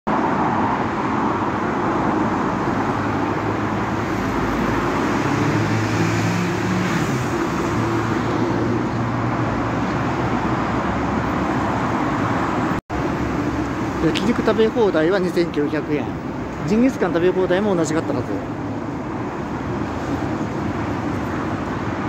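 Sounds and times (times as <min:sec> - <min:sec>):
passing cars: 0:00.1 - 0:22.0.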